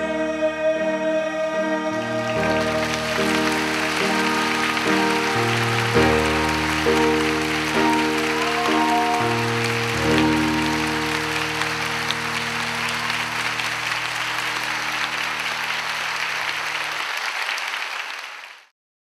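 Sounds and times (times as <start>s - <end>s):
held closing music chord: 0.0s - 16.5s
audience applause: 2.2s - 18.7s.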